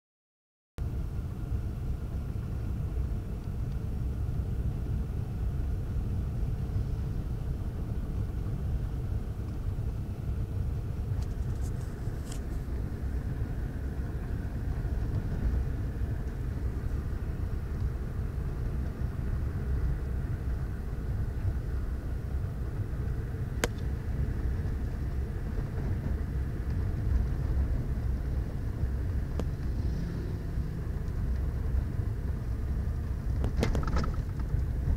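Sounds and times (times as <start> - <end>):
car cabin engine and road rumble: 0.8 - 34.9.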